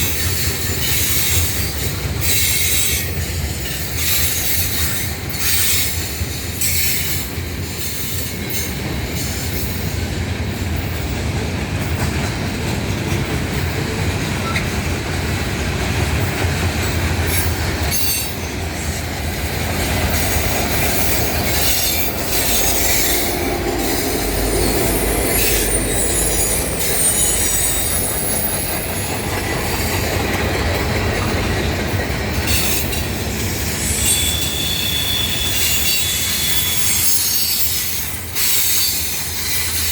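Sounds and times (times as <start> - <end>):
wheels squealing against rail: 0.0 - 10.0, 14.4 - 14.8, 17.2 - 39.9
train wheels clicking over rail joints: 0.0 - 39.9.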